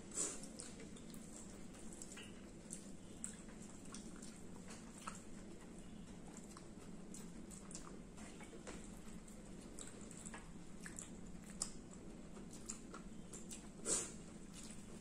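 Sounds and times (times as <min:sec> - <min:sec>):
low steady hum: 0:00.0 - 0:15.0
mouths chewing: 0:00.0 - 0:15.0.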